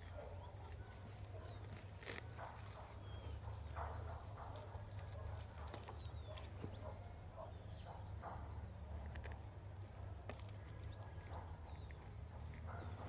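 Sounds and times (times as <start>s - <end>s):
soil crunching and scraping: 0.0s - 7.9s, 8.5s - 13.0s.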